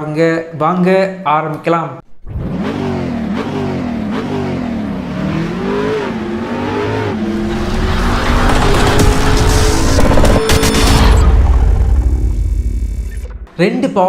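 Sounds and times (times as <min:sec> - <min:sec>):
engine revving: 0:02.1 - 0:13.5.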